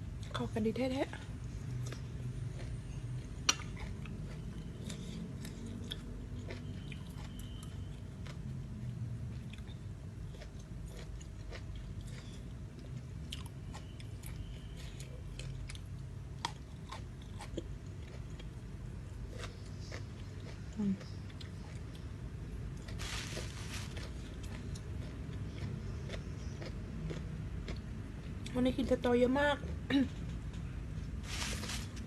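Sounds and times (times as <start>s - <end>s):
chewing and crunching food: 0.0s - 32.0s
low steady hum: 0.0s - 32.0s.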